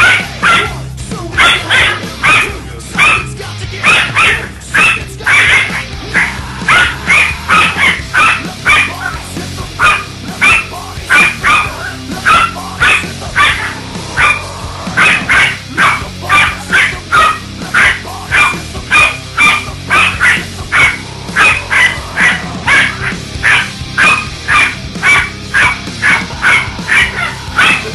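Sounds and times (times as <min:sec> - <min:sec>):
dog barking: 0:00.0 - 0:00.8, 0:01.4 - 0:09.2, 0:09.8 - 0:27.9
background music: 0:00.0 - 0:27.9.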